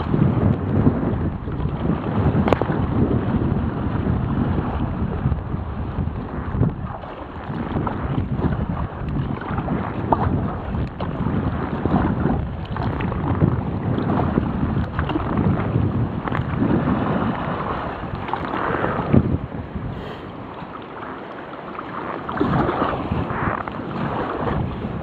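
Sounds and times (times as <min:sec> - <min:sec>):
waves splashing against kayak: 0:00.0 - 0:25.0
wind buffeting microphone: 0:00.0 - 0:25.0.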